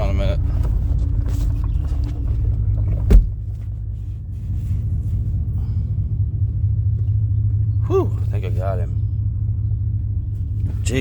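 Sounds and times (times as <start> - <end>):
pickup truck rumble from inside cab: 0.0 - 11.0.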